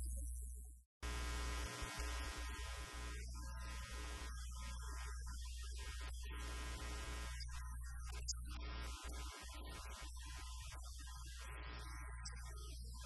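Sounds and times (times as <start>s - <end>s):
electrical mains hum: 1.0s - 13.0s.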